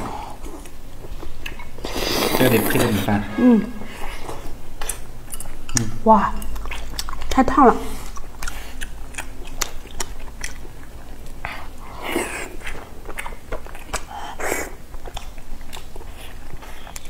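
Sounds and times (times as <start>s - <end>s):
wet chewing and lip-smacking: 0.4s - 2.3s, 4.0s - 17.0s.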